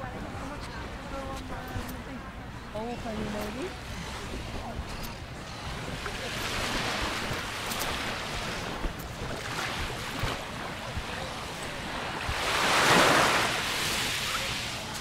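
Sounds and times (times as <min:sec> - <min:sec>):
small waves lapping on shore: 0:00.0 - 0:15.0.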